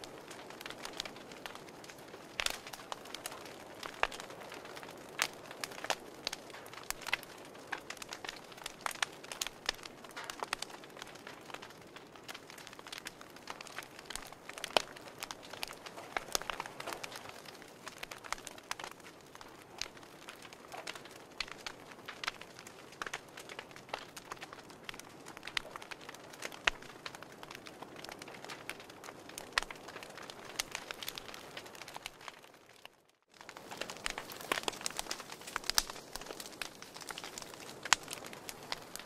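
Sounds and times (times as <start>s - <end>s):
sharp snaps and pops: 0.0s - 39.0s
wood fire crackling: 0.0s - 39.0s.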